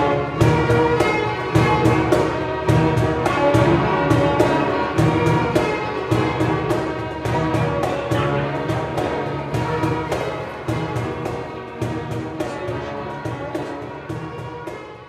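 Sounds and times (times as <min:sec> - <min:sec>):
orchestral strings and brass: 0:00.0 - 0:15.0
steady percussive beat: 0:00.4 - 0:15.0.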